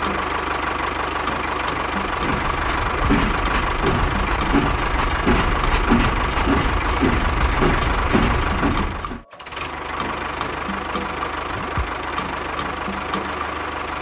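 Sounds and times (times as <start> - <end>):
tractor engine chugging: 0.0 - 14.0.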